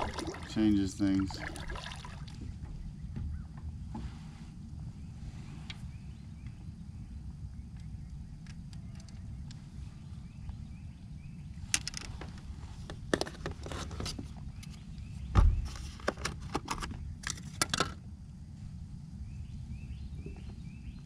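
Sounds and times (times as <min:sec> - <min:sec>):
steady low rumble: 0:00.0 - 0:13.1, 0:16.9 - 0:21.0.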